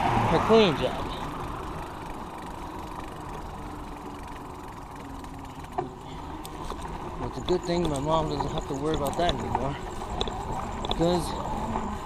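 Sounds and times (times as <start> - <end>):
traffic noise: 0.0 - 12.0
vehicle engine passing: 0.0 - 12.0.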